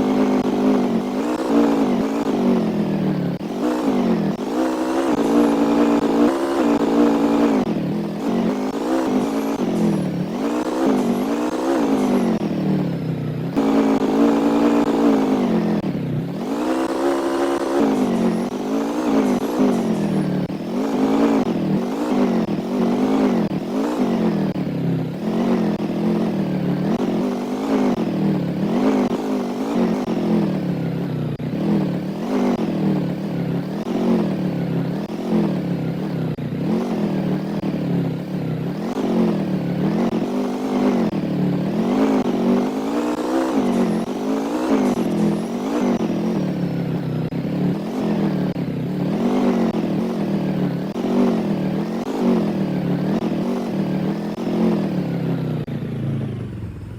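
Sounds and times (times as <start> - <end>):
vehicle engine revving: 0.0 - 56.9.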